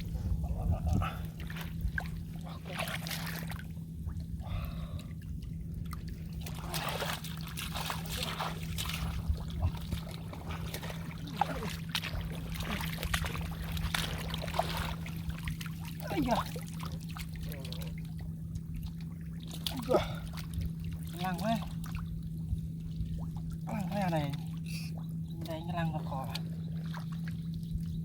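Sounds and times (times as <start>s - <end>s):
steady low hum: 0.0s - 28.0s
muddy water trickling and splashing: 0.7s - 28.0s.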